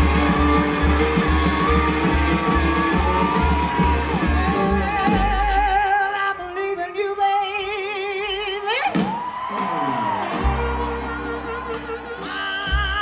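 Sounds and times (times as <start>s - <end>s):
man singing with vibrato: 0.0s - 9.0s, 10.9s - 13.0s
live blues band: 0.0s - 13.0s.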